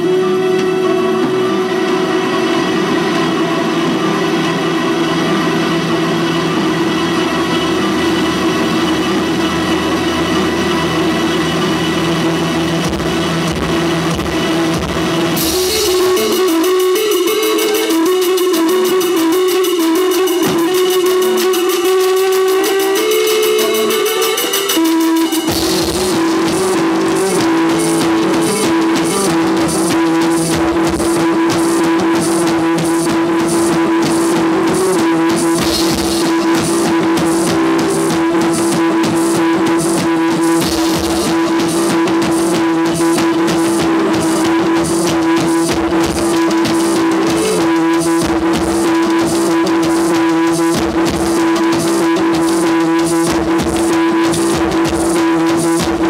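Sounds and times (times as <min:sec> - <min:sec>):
drums with fast beat: 0:00.0 - 0:56.0
held droning note: 0:00.0 - 0:56.0
live rock band playing: 0:00.0 - 0:56.0.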